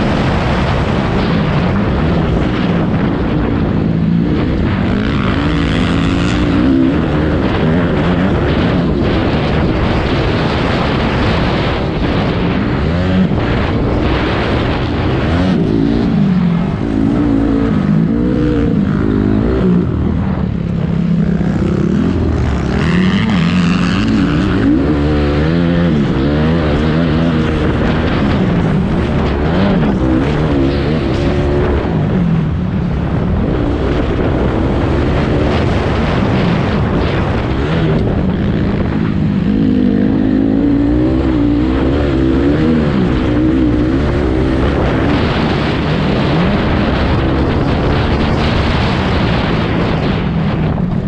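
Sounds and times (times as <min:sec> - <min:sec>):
racing engines revving: 0:00.0 - 0:51.0.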